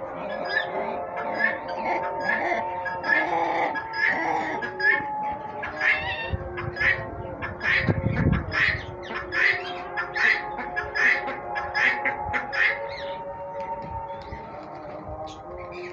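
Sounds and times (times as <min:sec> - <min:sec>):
background music: 0:00.0 - 0:15.9
poultry harsh calls: 0:00.0 - 0:15.9.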